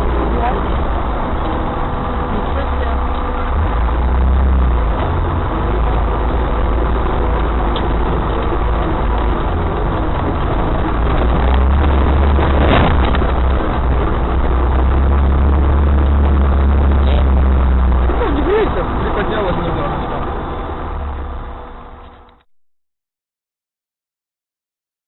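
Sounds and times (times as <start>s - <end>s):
vehicle engine running: 0.0s - 22.5s.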